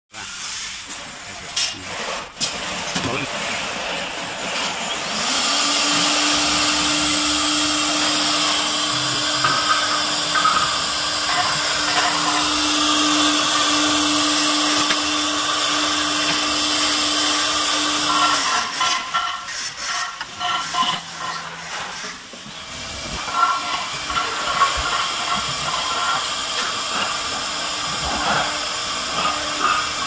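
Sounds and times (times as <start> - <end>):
wood router cutting: 1.8 - 30.0.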